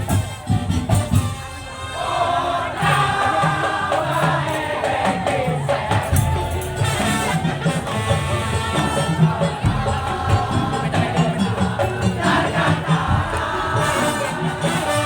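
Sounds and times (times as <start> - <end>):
percussion ensemble playing: 0.0 - 15.0
low drum beats: 2.8 - 15.0.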